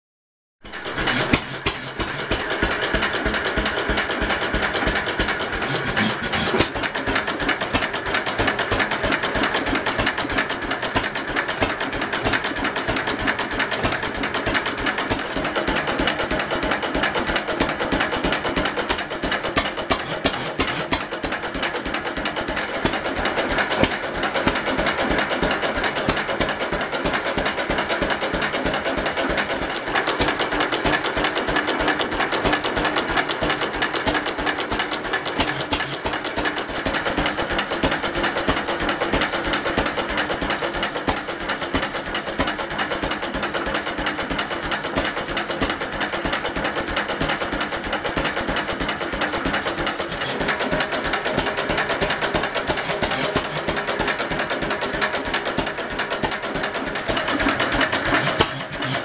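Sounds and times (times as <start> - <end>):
stationary engine clattering: 0.7 - 59.0.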